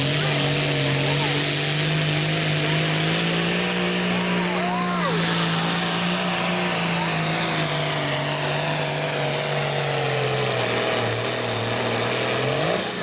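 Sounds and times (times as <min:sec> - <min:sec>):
tractor engine lugging and revving: 0:00.0 - 0:13.0.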